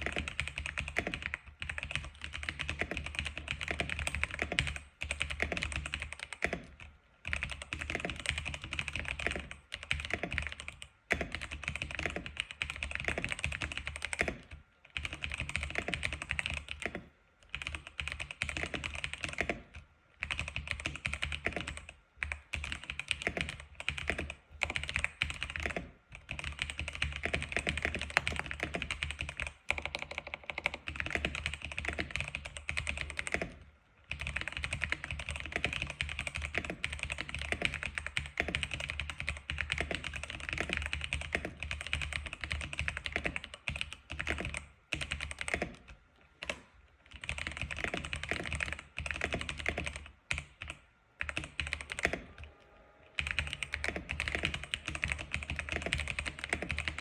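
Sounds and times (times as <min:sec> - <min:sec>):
fast keyboard typing: 0:00.0 - 0:52.5, 0:53.2 - 0:57.0.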